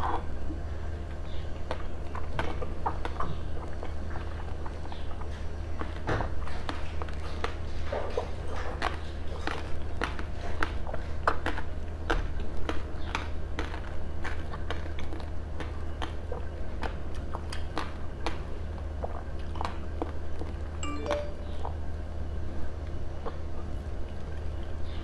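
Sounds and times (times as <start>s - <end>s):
person chewing jelly: 0.0s - 20.7s.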